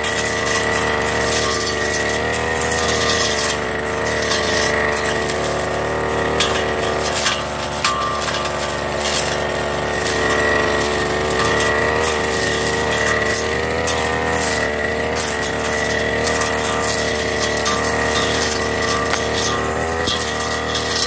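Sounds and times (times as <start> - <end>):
brush cutter engine running: 0.0 - 21.0
grass crackling: 0.0 - 21.0.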